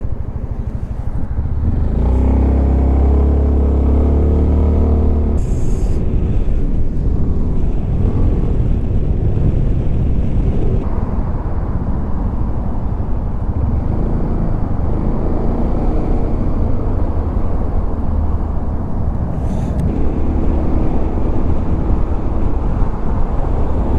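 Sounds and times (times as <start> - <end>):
scooter engine running at speed: 0.0 - 23.9
wind and road noise: 0.0 - 23.9.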